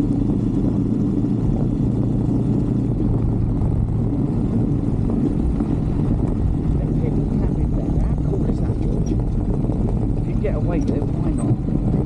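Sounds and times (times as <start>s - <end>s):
motorbike engine cruising: 0.0s - 12.0s.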